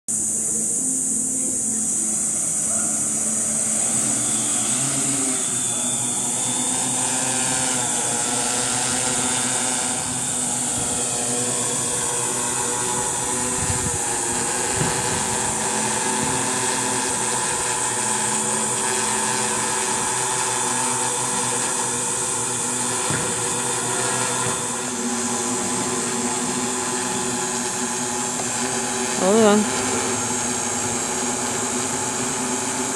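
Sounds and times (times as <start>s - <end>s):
drone motors buzzing: 0.1s - 32.9s
steady high hiss: 0.1s - 32.9s.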